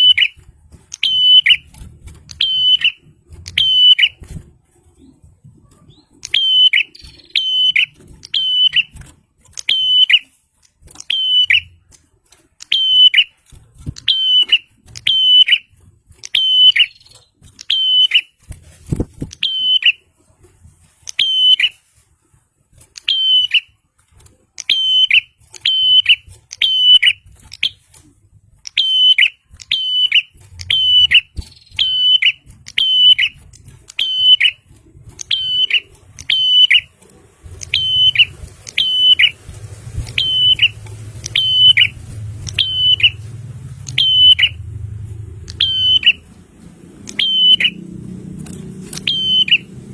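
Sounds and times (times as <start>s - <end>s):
bird calling sharp notes: 0.0s - 4.5s, 5.9s - 11.8s, 12.6s - 18.5s, 19.3s - 20.0s, 21.1s - 21.8s, 23.0s - 23.8s, 24.6s - 27.9s, 28.6s - 46.4s, 47.0s - 47.9s, 48.5s - 49.9s.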